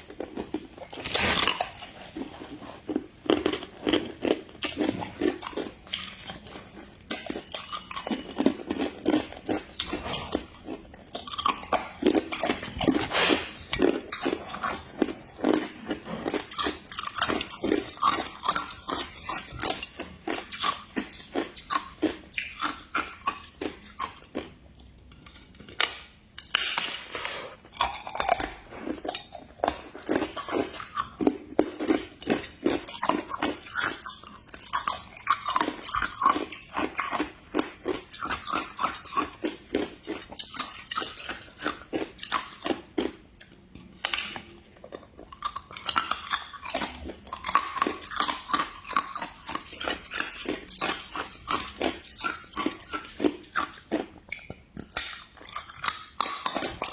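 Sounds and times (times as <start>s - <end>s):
person chewing hard ice: 0.0s - 56.9s.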